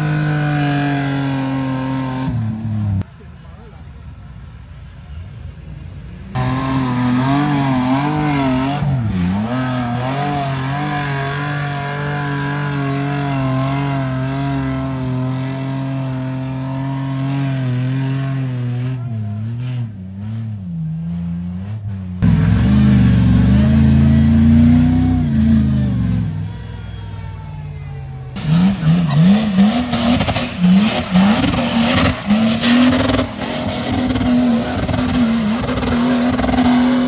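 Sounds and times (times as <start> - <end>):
off-road vehicle engine revving: 0.0 - 3.1, 6.2 - 37.0.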